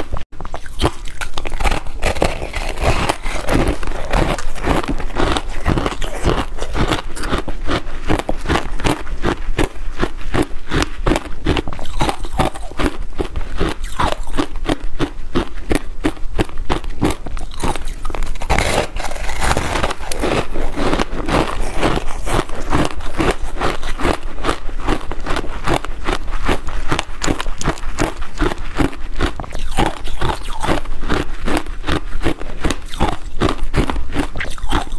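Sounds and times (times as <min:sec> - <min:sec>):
crunching frozen ice bar: 0:00.4 - 0:34.9.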